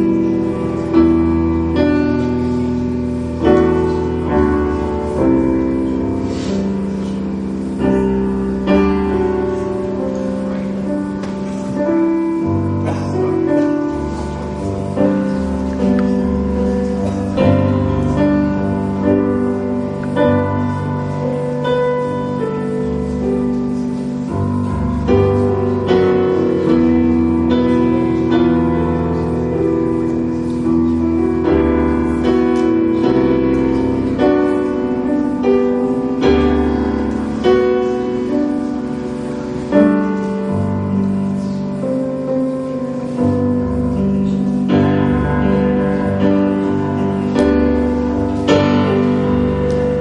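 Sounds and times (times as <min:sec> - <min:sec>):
piano chords on keyboard: 0:00.0 - 0:50.0.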